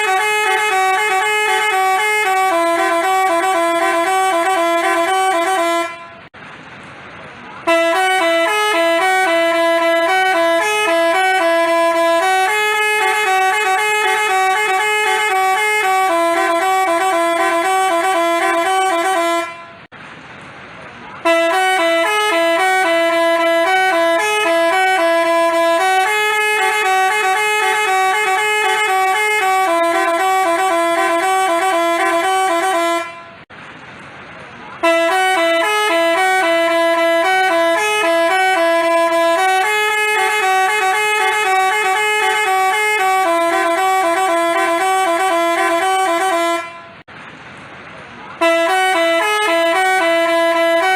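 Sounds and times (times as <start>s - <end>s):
multi-note bus horn melody: 0.0s - 6.4s, 7.5s - 19.9s, 21.2s - 33.5s, 34.7s - 47.1s, 48.4s - 50.9s.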